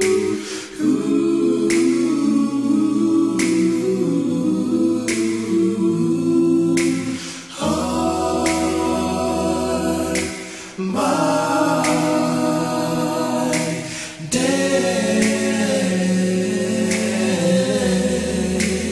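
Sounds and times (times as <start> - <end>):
male vocal group singing: 0.0 - 18.9.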